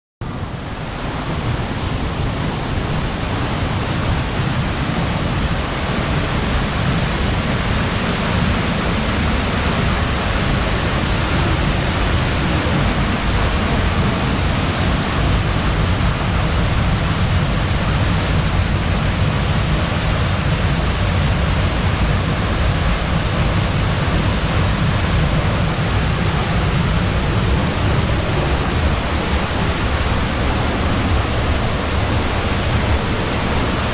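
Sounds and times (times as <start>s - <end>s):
waterfall rushing: 0.3s - 33.9s
deep rumble: 1.2s - 33.9s.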